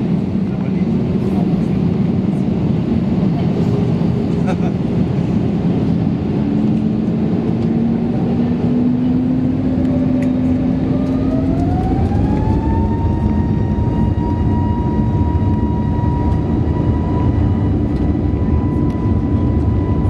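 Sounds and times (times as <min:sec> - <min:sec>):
rising engine whine: 0:00.0 - 0:20.0
jet engines spooling up: 0:03.6 - 0:20.0.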